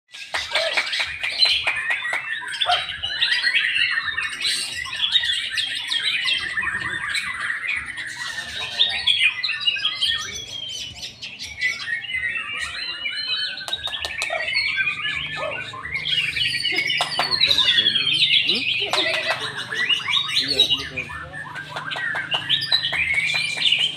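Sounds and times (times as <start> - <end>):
songbird singing: 0.1 - 23.9.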